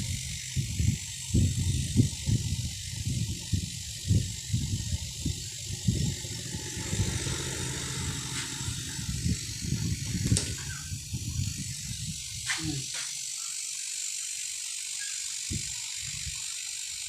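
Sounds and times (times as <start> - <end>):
refrigerator compressor humming: 0.0 - 17.0.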